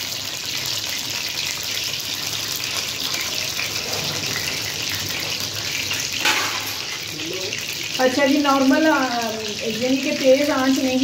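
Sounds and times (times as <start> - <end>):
meatballs sizzling in hot oil: 0.0 - 11.0.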